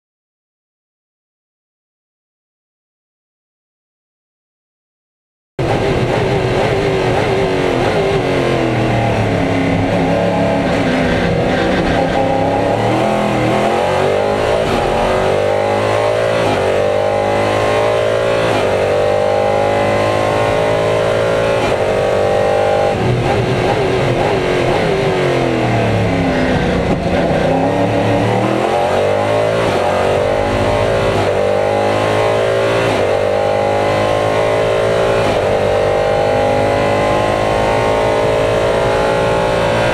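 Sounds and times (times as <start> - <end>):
racing engine shifting gears: 5.6 - 39.9.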